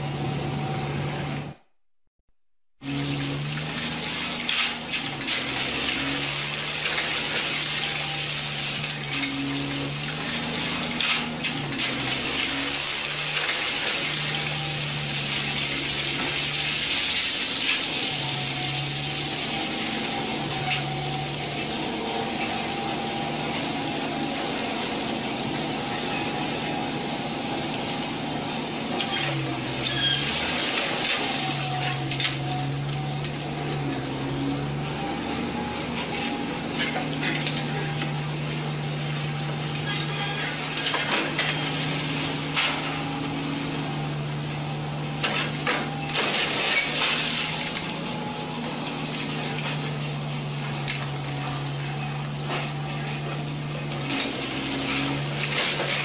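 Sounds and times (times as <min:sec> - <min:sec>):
soil scraping and crunching: 0:02.9 - 0:56.0.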